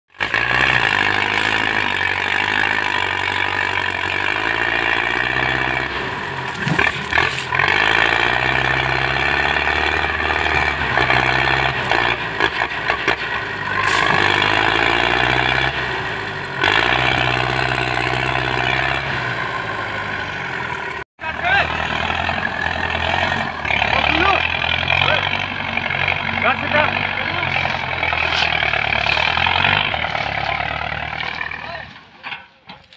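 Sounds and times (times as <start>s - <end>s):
tractor diesel engine under load: 0.1s - 32.9s.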